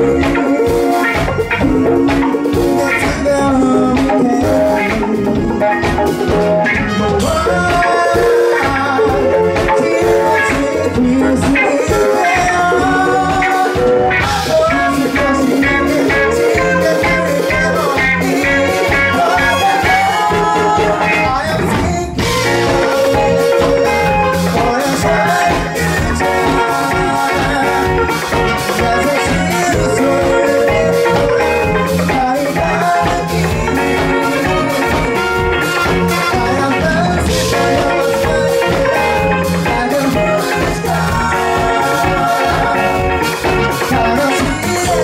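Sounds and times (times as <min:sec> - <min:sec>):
trumpet: 0:00.0 - 0:21.5, 0:22.2 - 0:45.0
drum kit: 0:00.0 - 0:45.0
electric guitar: 0:00.0 - 0:45.0
man singing: 0:00.0 - 0:45.0.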